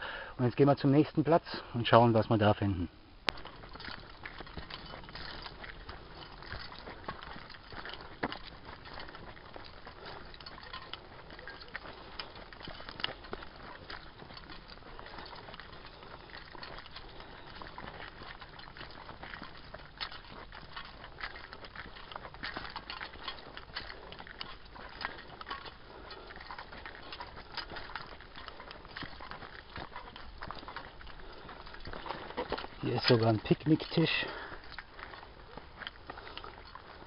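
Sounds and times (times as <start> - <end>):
footsteps on dirt path: 0.0 - 37.0.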